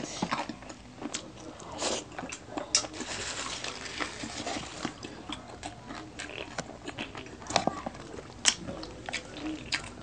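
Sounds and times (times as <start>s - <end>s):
chewing and mouth noises: 0.0s - 10.0s.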